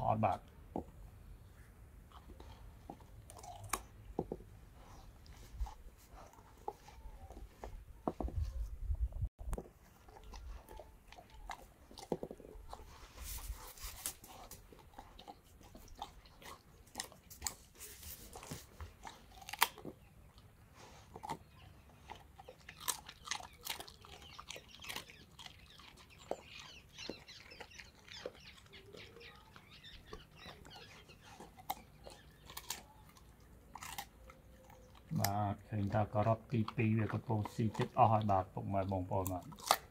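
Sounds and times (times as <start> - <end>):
dog crunching carrot: 2.1 - 7.1, 9.6 - 39.9.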